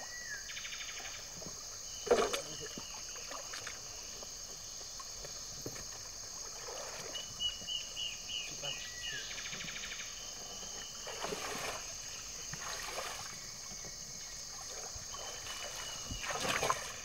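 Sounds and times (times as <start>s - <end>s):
water trickling and lapping: 0.0s - 17.0s
water splashes: 1.3s - 8.8s, 10.2s - 17.0s.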